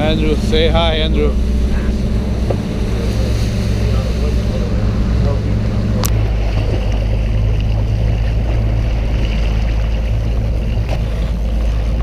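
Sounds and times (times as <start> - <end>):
boat engine droning: 0.0 - 12.0
water noise: 0.0 - 12.0.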